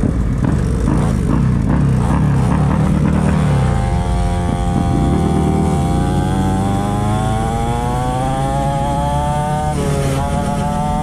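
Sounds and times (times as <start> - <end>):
dirt bike engine revving up: 0.0 - 11.0.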